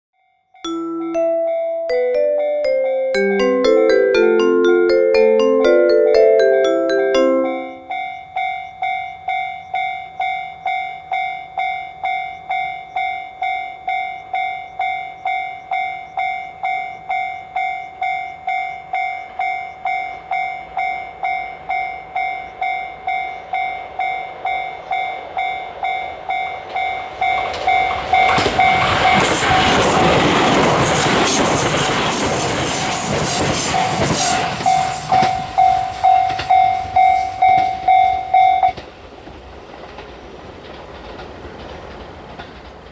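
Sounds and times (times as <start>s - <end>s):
railroad crossing bell ringing: 0.2s - 38.8s
train passing with wheel noise: 0.7s - 42.9s.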